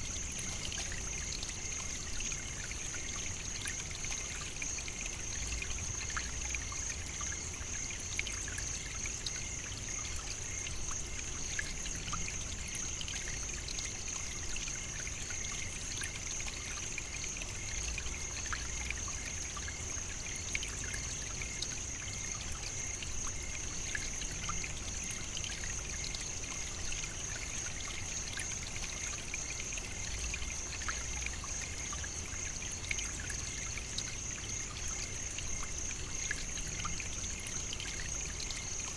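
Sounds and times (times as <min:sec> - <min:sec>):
trickling hiss: 0:00.0 - 0:38.9.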